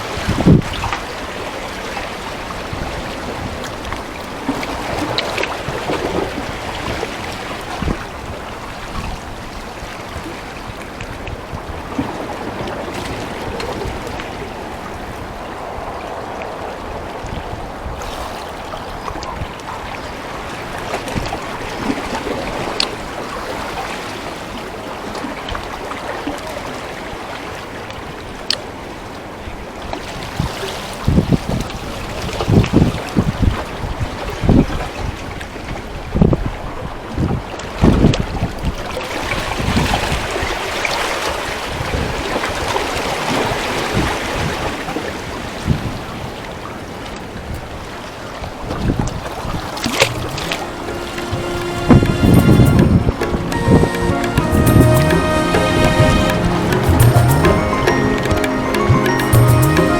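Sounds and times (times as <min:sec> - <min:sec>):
moving water: 0:00.0 - 0:59.9
wind: 0:00.0 - 0:59.9.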